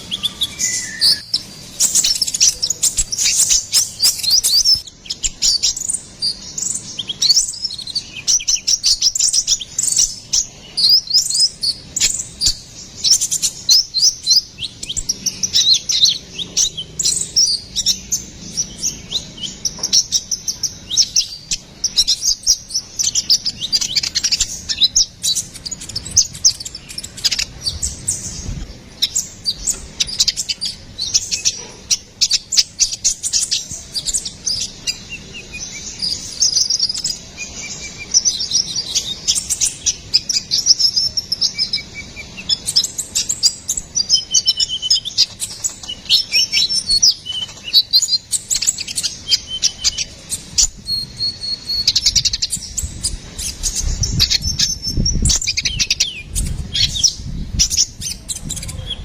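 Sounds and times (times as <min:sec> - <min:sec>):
sunbird chirping and trilling: 0:00.0 - 0:59.0.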